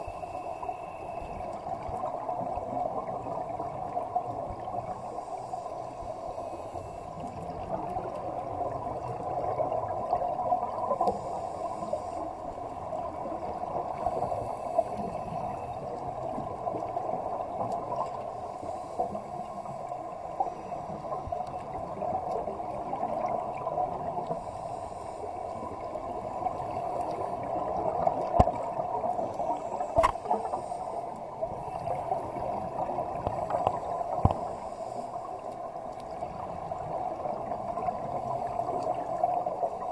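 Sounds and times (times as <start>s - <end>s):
muffled underwater water noise: 0.0s - 39.9s
regulator bubbles gurgling: 0.0s - 39.9s.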